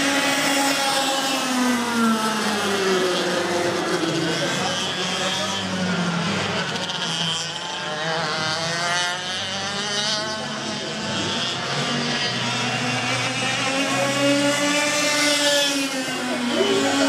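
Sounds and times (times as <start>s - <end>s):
two-stroke kart engines running: 0.0s - 17.0s.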